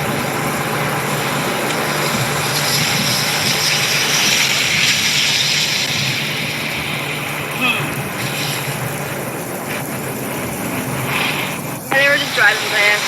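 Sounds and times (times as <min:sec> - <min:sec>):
rain: 0:00.0 - 0:13.0
tyres hissing on wet road: 0:00.0 - 0:13.0.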